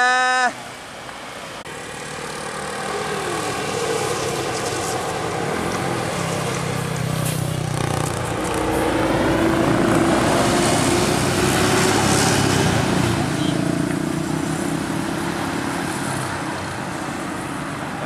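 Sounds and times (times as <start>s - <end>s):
road noise: 0.0s - 18.0s
bus engine passing by: 0.6s - 18.0s.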